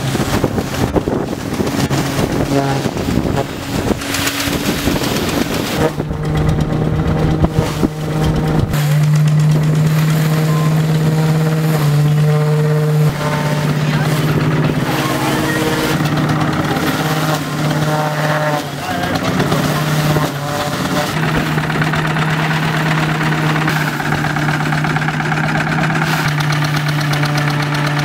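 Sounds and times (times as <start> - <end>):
straw rustling and clattering: 0.0 - 28.0
threshing machine humming: 0.0 - 28.0.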